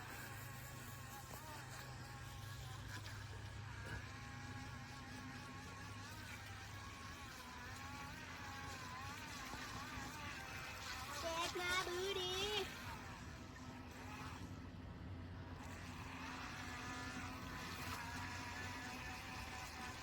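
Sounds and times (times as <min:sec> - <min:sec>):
toy boat electric motor whine: 0:00.0 - 0:20.0.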